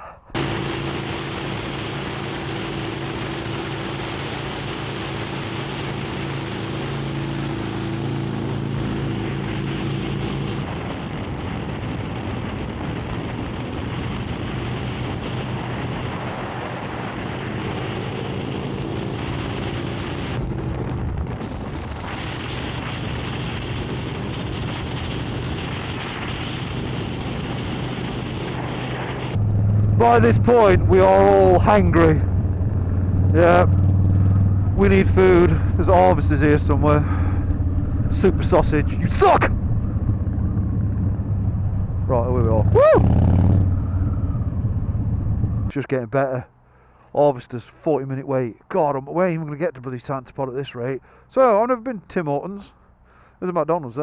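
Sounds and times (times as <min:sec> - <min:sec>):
wind noise on microphone: 0:00.3 - 0:45.7
motorcycle engine running: 0:00.4 - 0:45.7.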